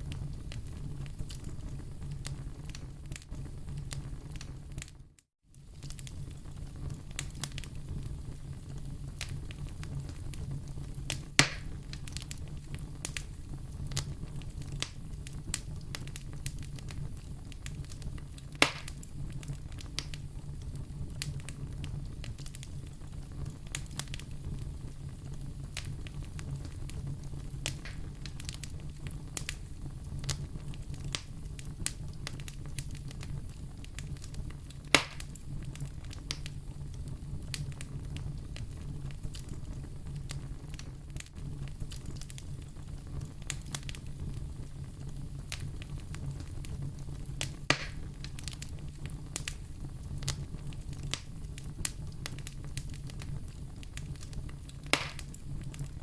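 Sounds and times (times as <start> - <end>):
loud fire pops: 0.0 - 5.0, 5.6 - 56.0
fire crackling in a fireplace: 0.0 - 56.0.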